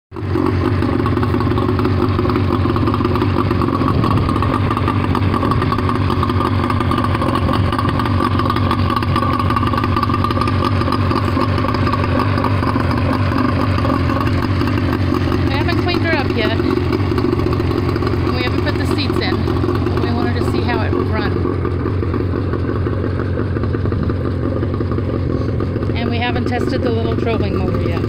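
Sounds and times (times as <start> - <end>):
outboard motor idling: 0.1 - 28.0.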